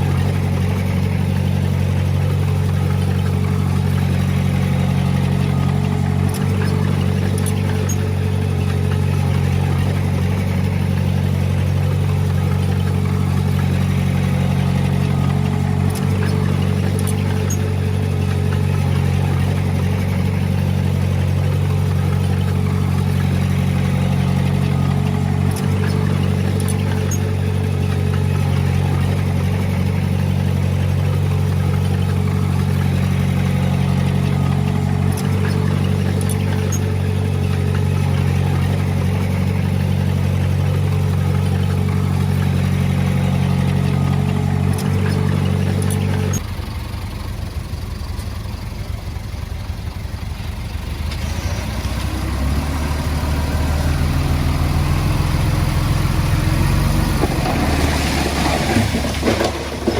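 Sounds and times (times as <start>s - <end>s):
heavy diesel engine with whine: 0.0s - 59.9s
quieter engine running: 0.0s - 59.9s.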